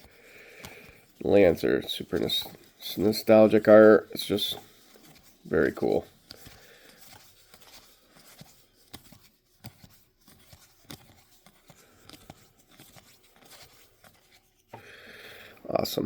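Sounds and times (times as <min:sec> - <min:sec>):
cards flicking and rustling: 0:00.0 - 0:14.8.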